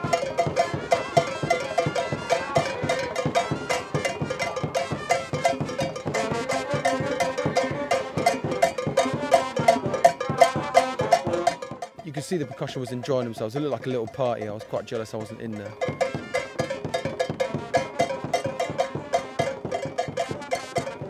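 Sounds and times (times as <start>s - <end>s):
conga street band drums: 0.0s - 21.0s
struck metal bells: 0.0s - 21.0s.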